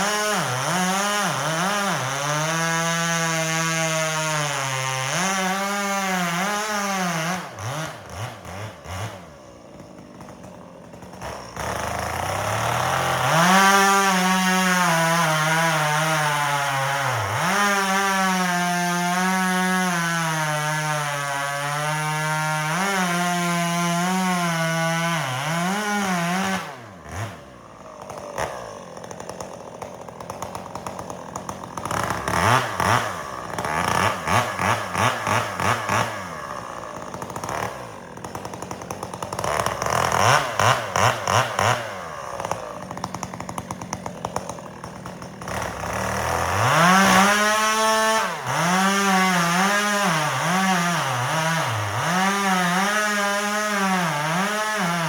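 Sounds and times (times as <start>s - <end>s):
chainsaw cutting log: 0.0s - 55.0s
chainsaw revving: 0.0s - 55.0s.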